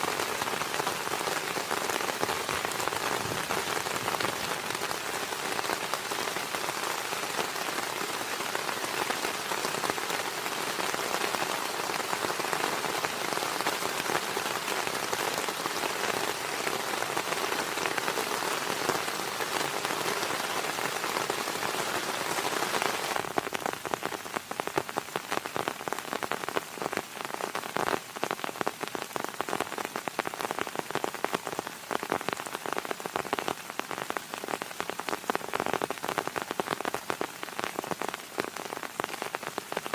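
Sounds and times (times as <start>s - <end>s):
heavy rain: 0.0s - 39.9s
raindrops pattering: 0.0s - 39.9s.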